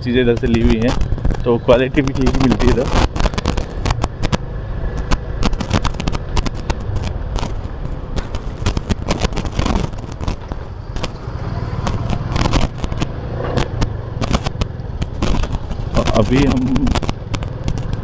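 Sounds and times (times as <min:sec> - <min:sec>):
microphone crackle and rustle: 0:00.0 - 0:18.0
motorcycle engine running: 0:00.0 - 0:18.0.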